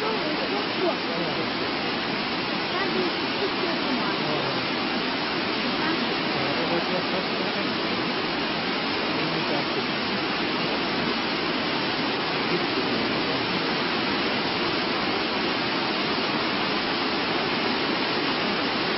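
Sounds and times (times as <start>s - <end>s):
waterfall roaring: 0.0s - 18.9s.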